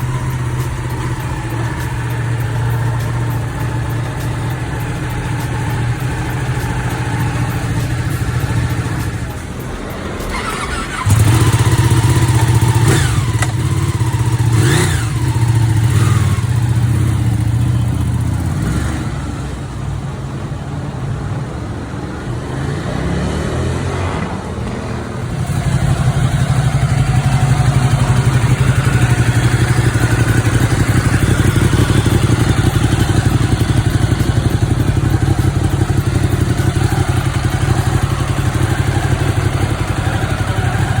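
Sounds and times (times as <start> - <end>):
motorcycle engine running: 0.0 - 20.1, 24.6 - 41.0.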